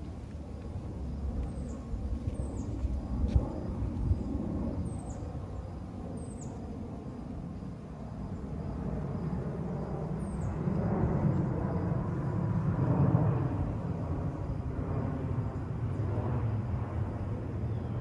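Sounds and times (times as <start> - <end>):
jet airliner rumble: 0.0 - 18.0.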